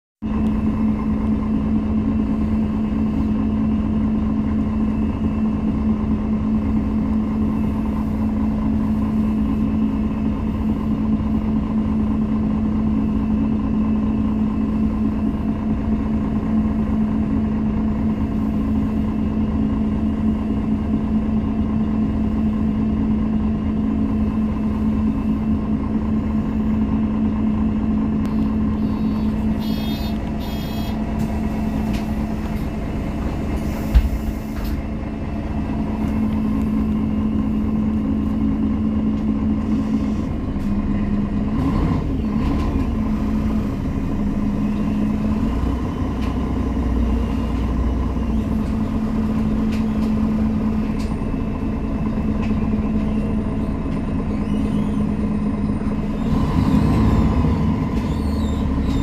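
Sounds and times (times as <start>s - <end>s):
bus diesel engine idling: 0.2s - 59.0s.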